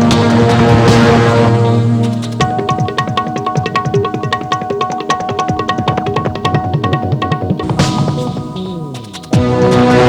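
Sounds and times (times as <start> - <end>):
fast hand-drum rhythm: 0.0 - 10.0.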